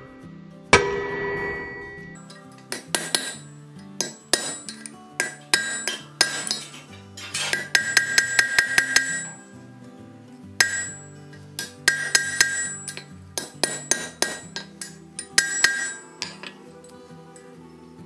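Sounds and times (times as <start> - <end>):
acoustic guitar music: 0.0 - 18.0
hammer striking iron on anvil: 0.7 - 9.6, 10.6 - 16.6.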